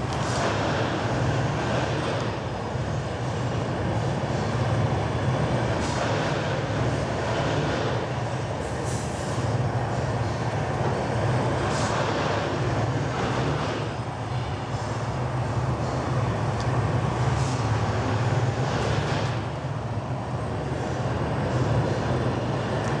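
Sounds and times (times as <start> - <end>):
workshop machinery drone: 0.0 - 23.0.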